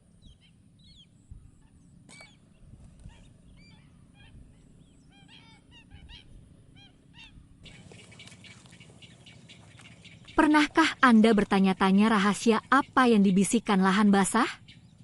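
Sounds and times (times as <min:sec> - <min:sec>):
birds calling short notes: 0:00.3 - 0:15.0.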